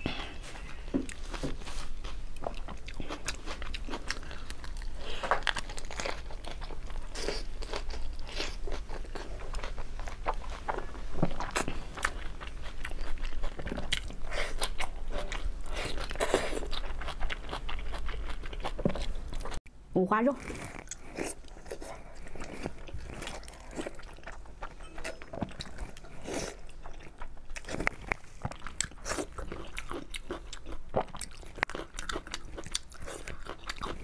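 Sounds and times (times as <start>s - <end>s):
wet crunching and chewing: 0.7s - 19.6s, 20.4s - 34.0s.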